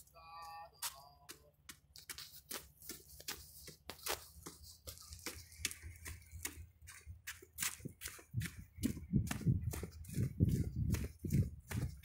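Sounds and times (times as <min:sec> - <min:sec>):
footsteps clicking and tapping: 0:00.0 - 0:12.0.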